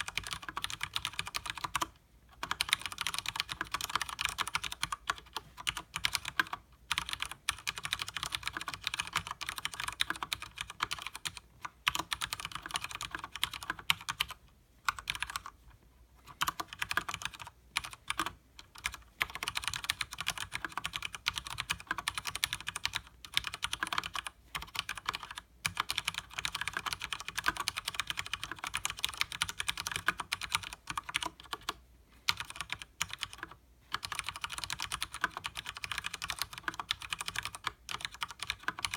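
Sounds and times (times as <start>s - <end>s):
fast typing on mechanical keyboard: 0.0s - 15.6s, 16.2s - 38.9s.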